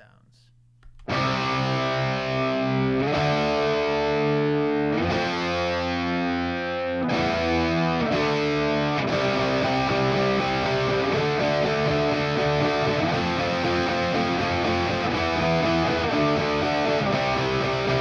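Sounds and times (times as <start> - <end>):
distorted electric guitar chords: 1.1 - 18.0.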